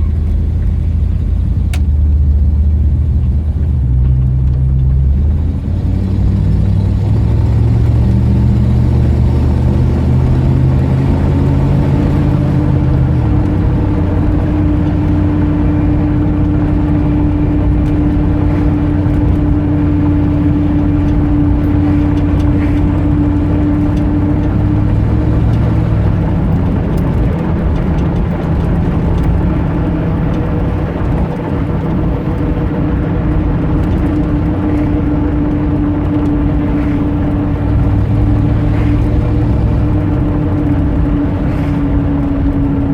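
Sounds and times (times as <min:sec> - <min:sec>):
steady whine: 0:00.0 - 0:42.9
vehicle engine running: 0:00.0 - 0:42.9.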